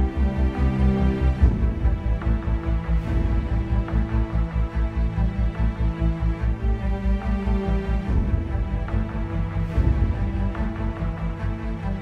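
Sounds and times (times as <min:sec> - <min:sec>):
music with pulsing low beat: 0:00.0 - 0:12.0.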